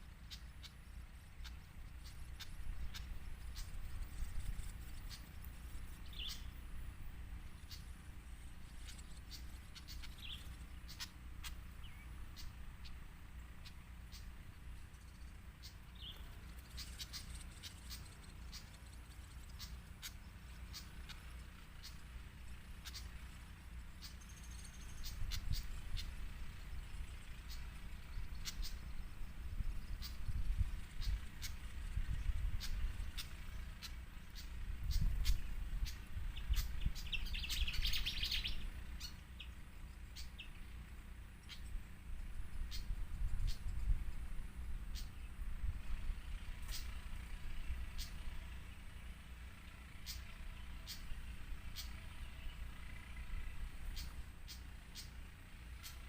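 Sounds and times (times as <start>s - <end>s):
bird chips: 0.0s - 44.2s, 46.2s - 56.0s
steady low rumble: 0.0s - 56.0s.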